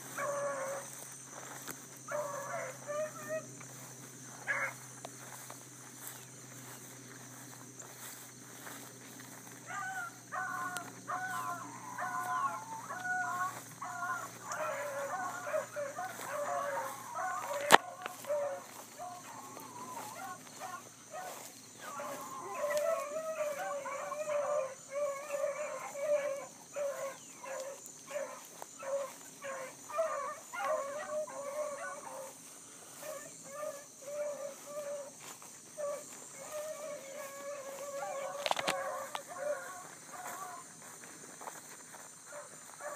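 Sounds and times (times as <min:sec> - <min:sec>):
hounds baying: 0:00.0 - 0:42.9.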